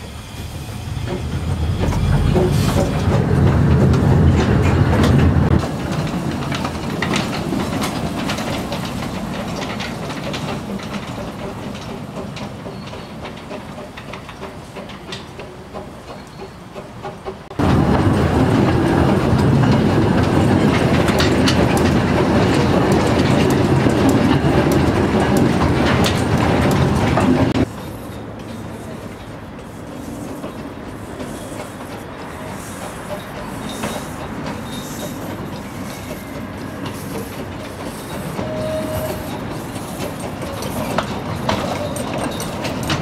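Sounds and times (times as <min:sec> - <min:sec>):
steam train running: 0:00.0 - 0:43.0.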